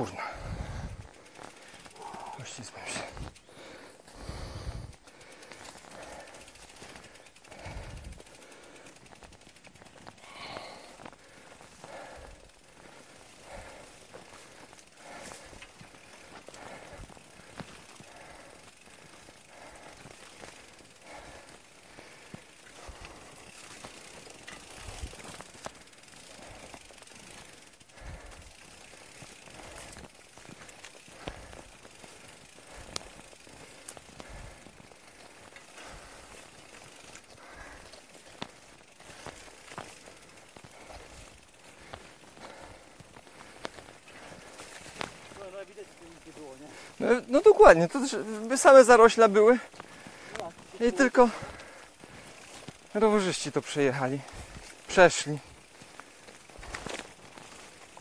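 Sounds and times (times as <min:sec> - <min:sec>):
heavy gasping breaths: 0:00.0 - 0:48.5, 0:49.1 - 0:57.7
bicycle freewheel ticking: 0:00.0 - 0:58.0.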